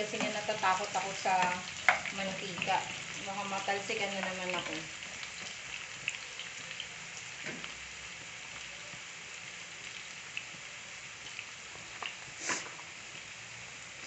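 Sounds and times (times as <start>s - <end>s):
oil popping and crackling: 0.0s - 14.0s
vegetables sizzling in oil: 0.0s - 14.0s.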